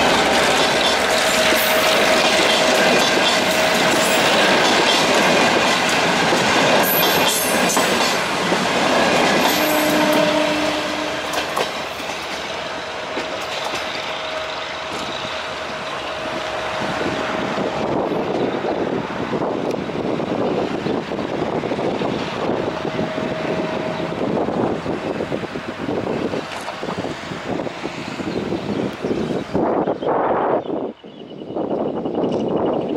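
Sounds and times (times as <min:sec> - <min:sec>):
train wheels clattering on rails: 0:00.0 - 0:27.2.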